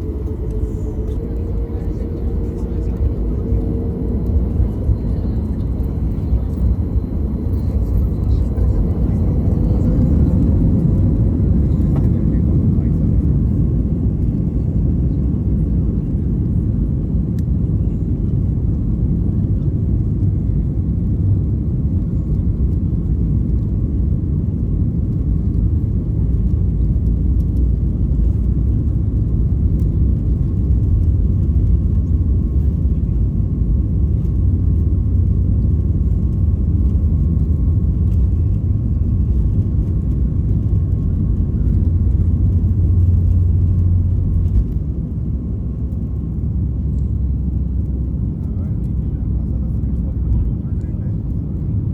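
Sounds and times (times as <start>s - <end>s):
airplane cabin engine rumble: 0.0s - 51.9s
faint engine whine: 0.0s - 51.9s.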